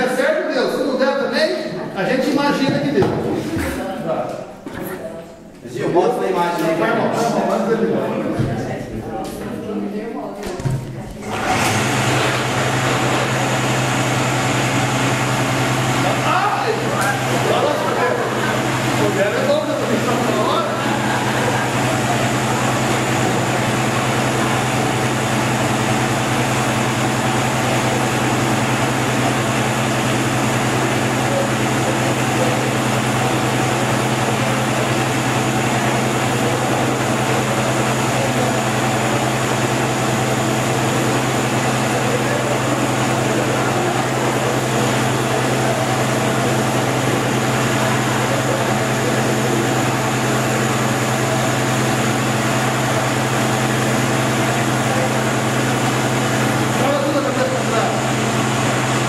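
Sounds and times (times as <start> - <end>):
generator motor and belt hum: 0.0 - 59.0.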